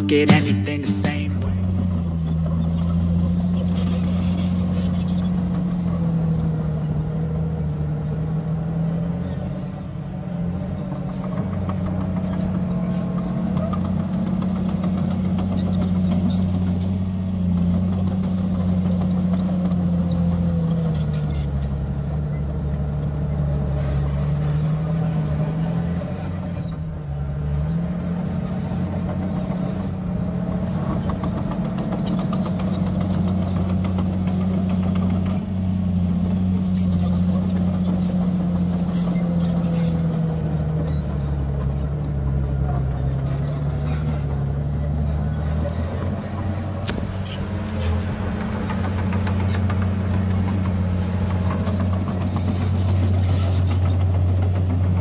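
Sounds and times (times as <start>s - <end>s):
bulldozer diesel engine under load: 1.2s - 55.0s.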